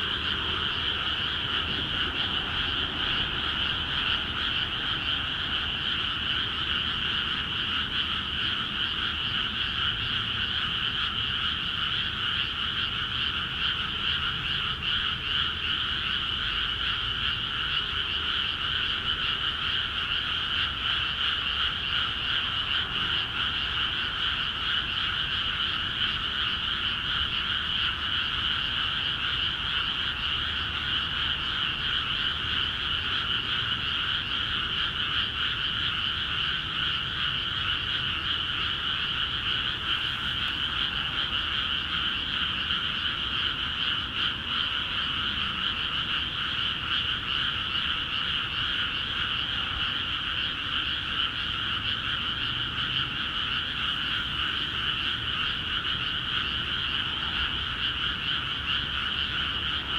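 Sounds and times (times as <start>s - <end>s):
chorus of frogs calling: 0.0s - 59.9s.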